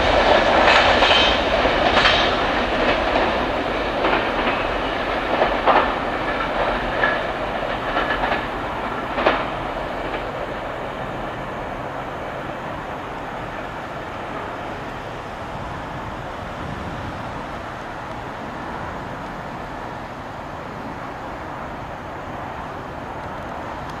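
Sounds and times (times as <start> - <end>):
freight train rolling on rails: 0.0 - 24.0.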